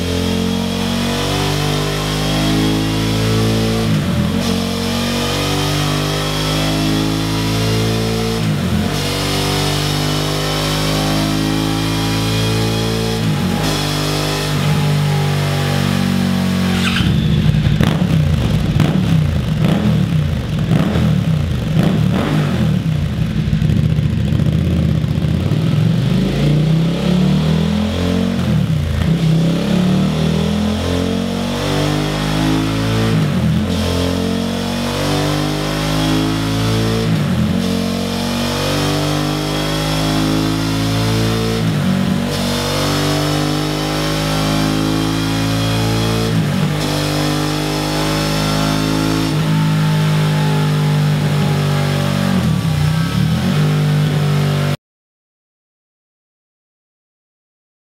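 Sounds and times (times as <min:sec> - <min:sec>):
motorcycle engine revving: 0:00.0 - 0:54.8.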